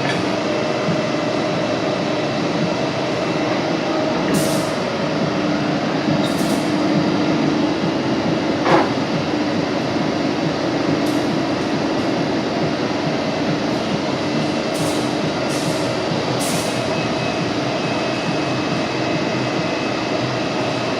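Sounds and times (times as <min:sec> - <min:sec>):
granulator machine humming: 0:00.0 - 0:20.9.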